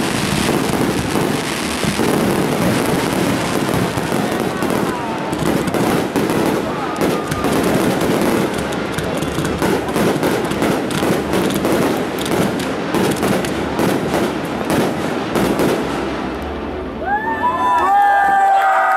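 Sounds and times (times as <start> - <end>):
fireworks bursting: 0.0 - 16.8.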